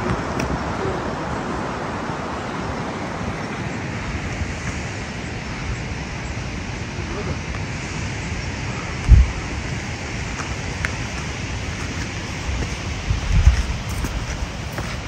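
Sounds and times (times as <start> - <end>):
mountain stream rushing: 0.0 - 15.0
wind rumble on microphone: 0.0 - 15.0.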